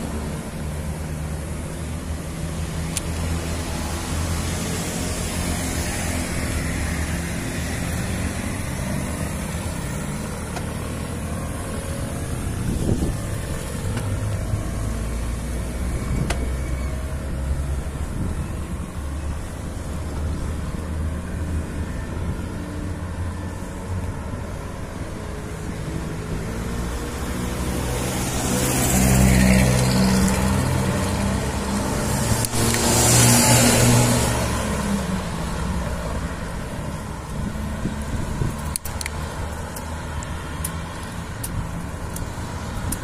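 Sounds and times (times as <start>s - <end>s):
traffic rumble: 0.0s - 43.0s
vehicles passing close: 0.0s - 43.0s.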